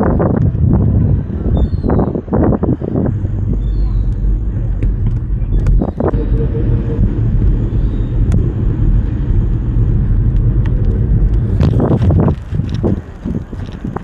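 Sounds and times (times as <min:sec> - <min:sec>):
tyre and road noise: 0:00.0 - 0:14.0
wind buffeting microphone: 0:00.0 - 0:14.0.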